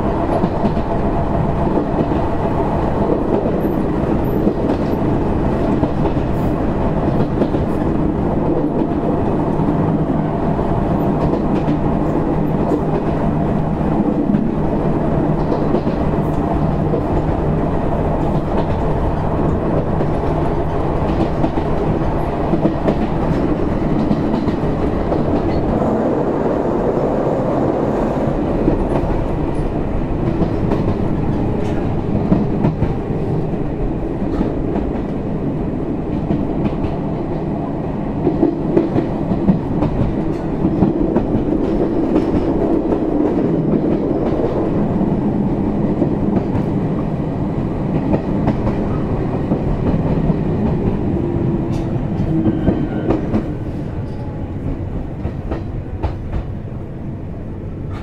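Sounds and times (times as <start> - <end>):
rail-joint clickety-clack: 0.0 - 26.5, 27.5 - 56.8
train wheels rumbling on rail: 0.0 - 58.0.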